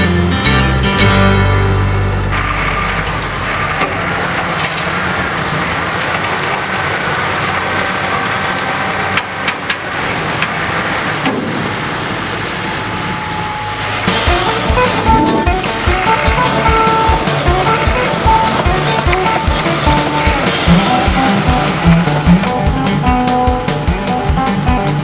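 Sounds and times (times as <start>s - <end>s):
heavy vehicle engine running: 0.0s - 25.0s.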